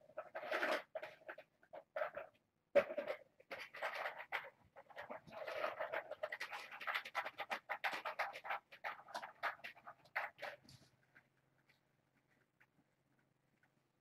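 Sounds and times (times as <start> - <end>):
kittens' claws scratching: 0.1 - 13.8.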